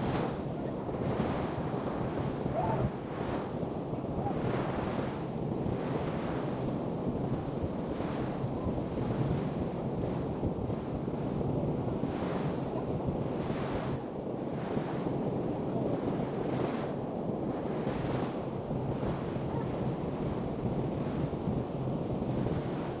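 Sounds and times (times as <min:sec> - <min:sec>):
ocean surf washing ashore: 0:00.0 - 0:23.0
wind buffeting microphone: 0:00.0 - 0:23.0.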